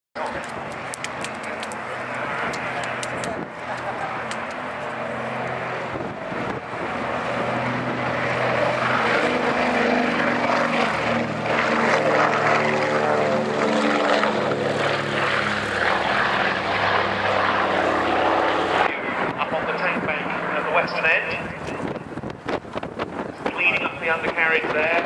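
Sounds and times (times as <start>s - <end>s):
radial aircraft engines at full power: 0.2s - 25.0s.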